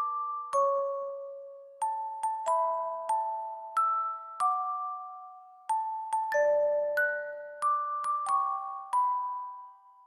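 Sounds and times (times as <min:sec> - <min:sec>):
gentle bell-like melody: 0:00.0 - 0:10.0.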